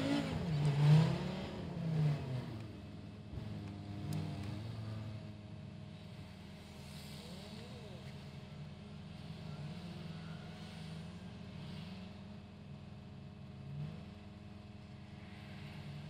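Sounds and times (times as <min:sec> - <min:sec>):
car engine idling: 0:00.0 - 0:16.0
traffic passing outside: 0:00.0 - 0:16.0.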